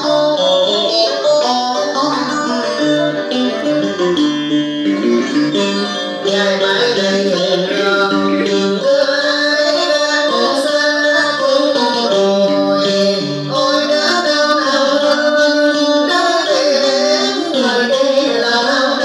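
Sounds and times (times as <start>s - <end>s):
accompanying instruments: 0.0s - 19.0s
person singing: 0.0s - 19.0s.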